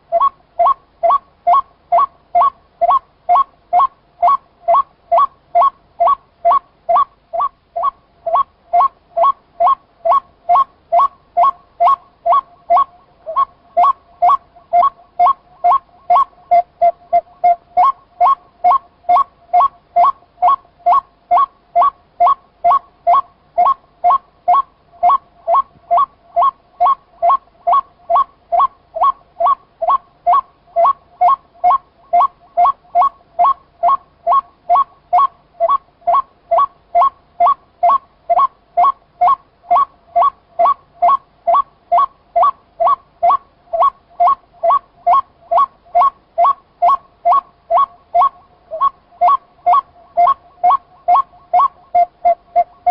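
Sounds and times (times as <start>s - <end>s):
bird calling repeated notes: 0.0s - 52.9s.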